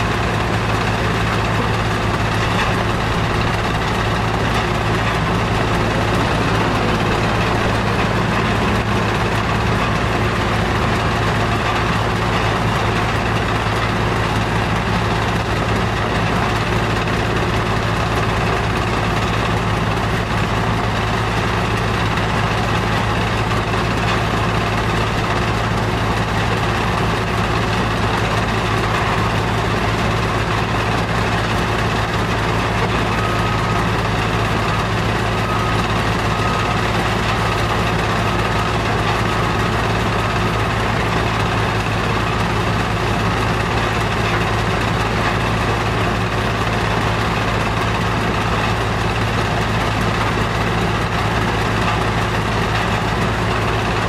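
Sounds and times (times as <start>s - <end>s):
stone crusher machinery hum: 0.0s - 54.0s.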